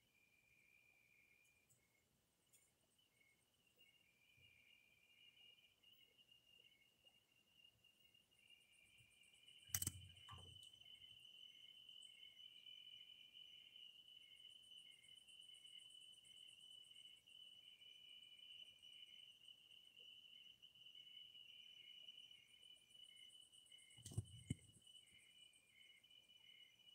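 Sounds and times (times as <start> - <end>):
insects chirping: 0.0 - 26.9
insects trilling: 0.2 - 26.9.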